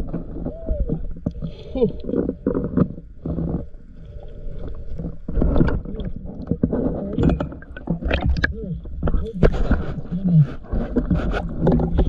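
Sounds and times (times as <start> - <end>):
underwater rumbling and bubbling: 0.0 - 12.0.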